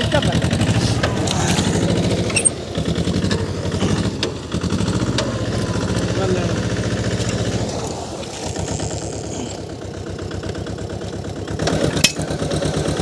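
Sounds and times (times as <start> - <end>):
tiller engine running: 0.0 - 13.0.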